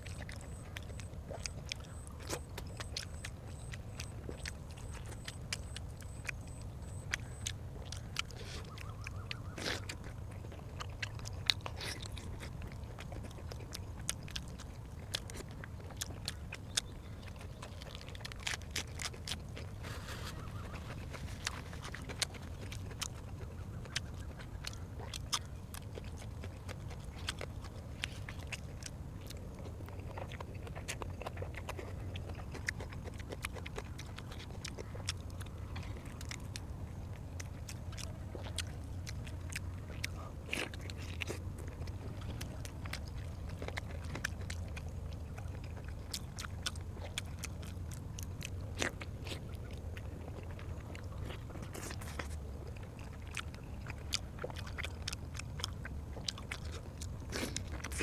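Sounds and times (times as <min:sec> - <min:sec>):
person chewing food: 0:00.0 - 0:58.0
steady low hum: 0:00.0 - 0:58.0.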